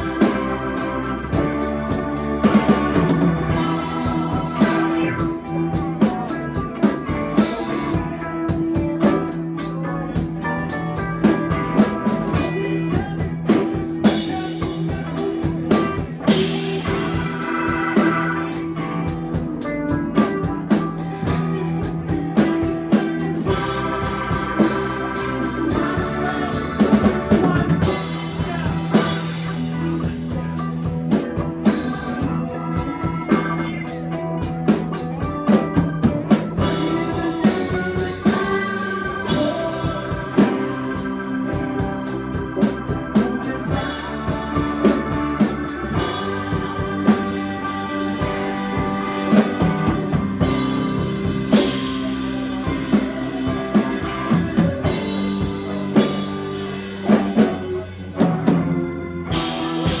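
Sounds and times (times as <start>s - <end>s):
drum kit beating: 0.0s - 60.0s.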